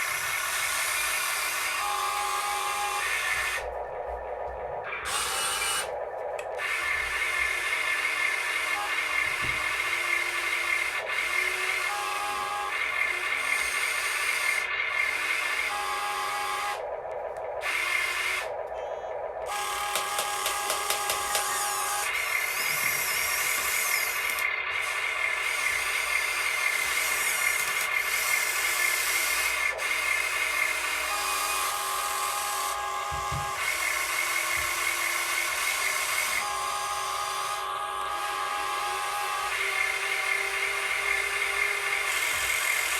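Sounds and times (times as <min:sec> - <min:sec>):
small electric motors whining: 0:00.0 - 0:03.9, 0:04.8 - 0:42.9.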